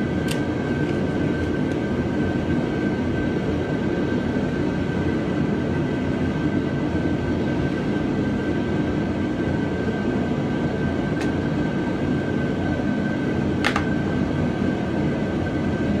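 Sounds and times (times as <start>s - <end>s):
machine rumbling with high whine: 0.0s - 16.0s.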